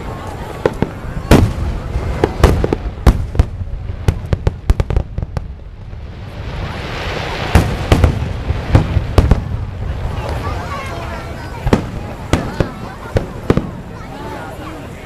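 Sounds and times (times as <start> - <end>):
fireworks bangs: 0.0 - 14.9
hissing crackle of fireworks: 0.0 - 15.0.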